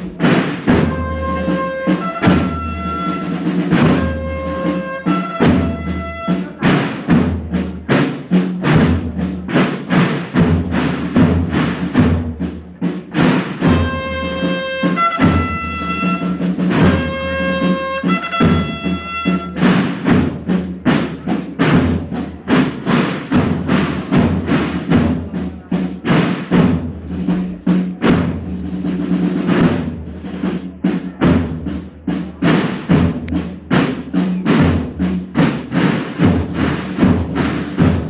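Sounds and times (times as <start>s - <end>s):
drums beating march rhythm: 0.0s - 38.0s.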